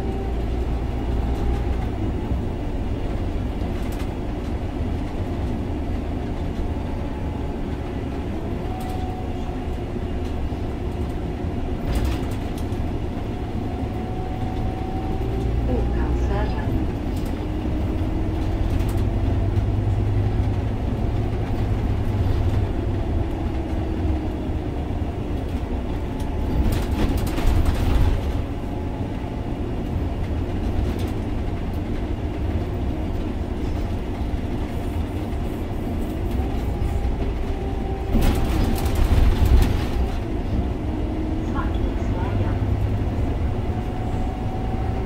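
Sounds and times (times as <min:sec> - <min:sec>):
bus clatter: 0:00.0 - 0:45.0
bus engine and tyre rumble: 0:00.0 - 0:45.0.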